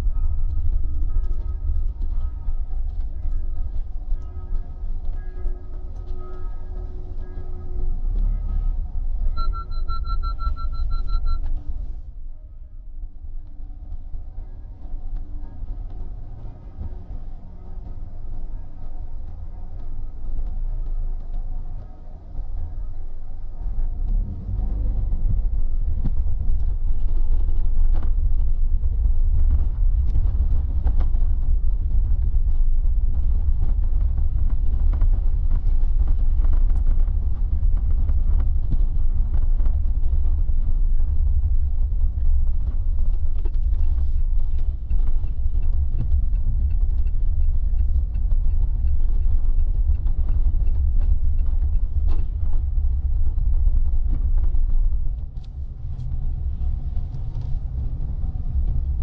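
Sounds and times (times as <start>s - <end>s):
car road noise rumble: 0.0s - 59.0s.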